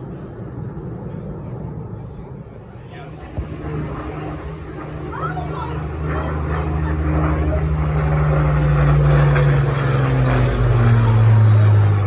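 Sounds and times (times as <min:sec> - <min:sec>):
propeller plane flying overhead: 0:00.0 - 0:12.0.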